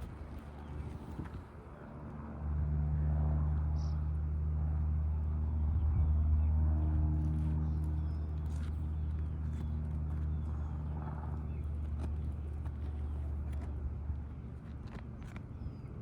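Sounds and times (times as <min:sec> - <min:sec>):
engine humming low: 0:00.0 - 0:16.0.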